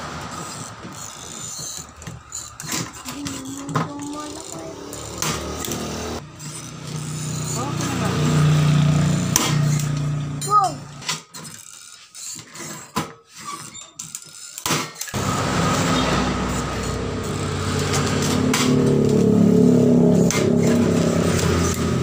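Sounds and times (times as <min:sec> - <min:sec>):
steady engine hum: 0:00.0 - 0:11.0, 0:15.2 - 0:22.0.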